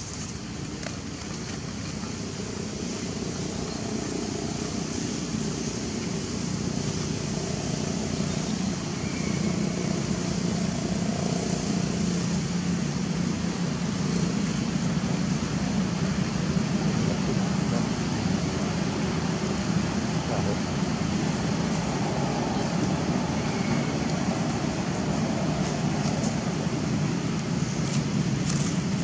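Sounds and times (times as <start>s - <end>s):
distant engine drone: 0.0s - 29.0s.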